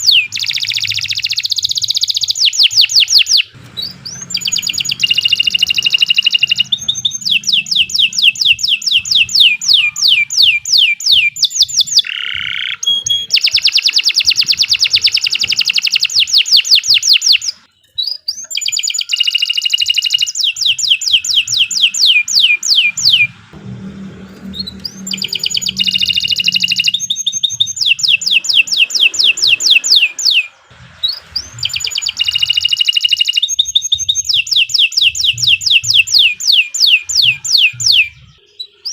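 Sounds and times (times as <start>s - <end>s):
canary singing trills: 0.0s - 23.4s, 24.3s - 38.9s.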